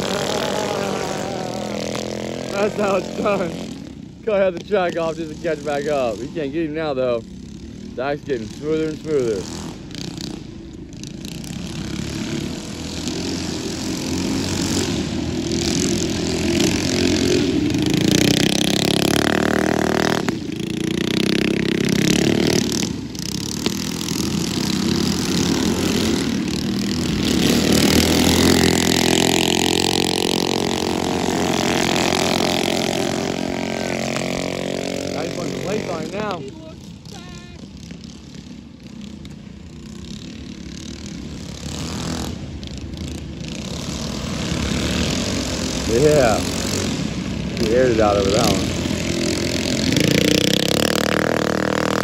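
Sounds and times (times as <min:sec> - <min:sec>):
mini bike engines at full throttle: 0:00.0 - 0:52.0.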